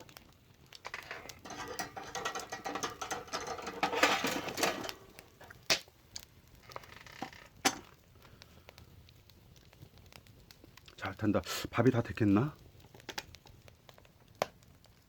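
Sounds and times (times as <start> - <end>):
firewood fire crackling: 0.0 - 15.0.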